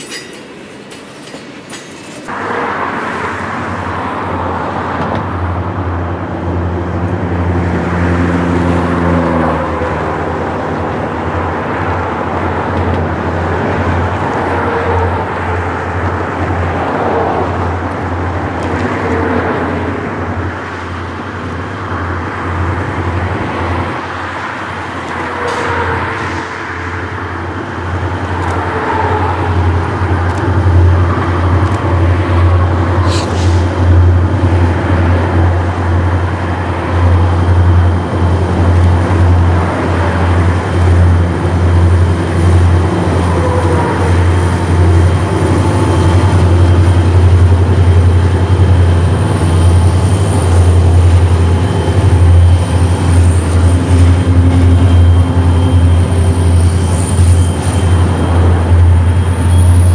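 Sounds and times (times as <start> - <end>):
rail noise: 0.0 - 59.9
train passing rumble: 0.0 - 59.9.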